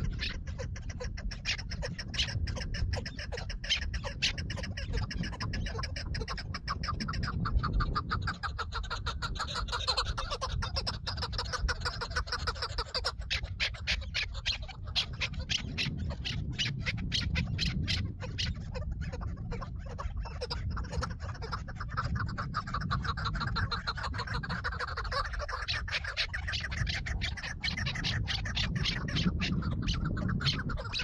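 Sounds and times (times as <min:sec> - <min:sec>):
partridges clucking calls: 0:00.0 - 0:31.0.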